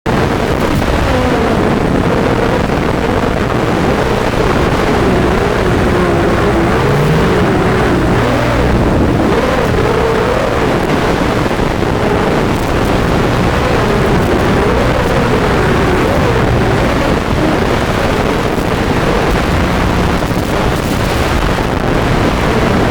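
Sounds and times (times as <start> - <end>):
rough rushing noise: 0.1 - 22.9
quadcopter motors whining: 0.8 - 20.1.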